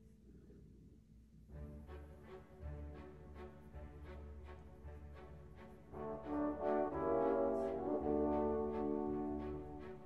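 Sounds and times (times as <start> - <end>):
soft instrumental music: 1.5 - 10.0.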